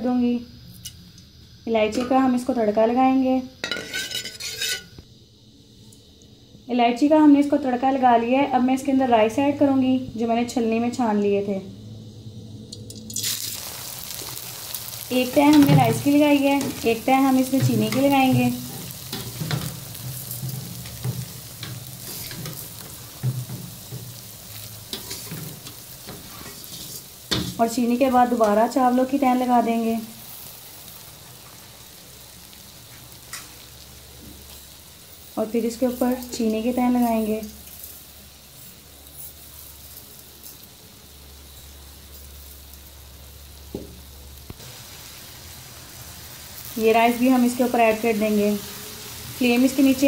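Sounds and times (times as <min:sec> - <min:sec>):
oil sizzling in a pot: 0:00.0 - 0:50.0.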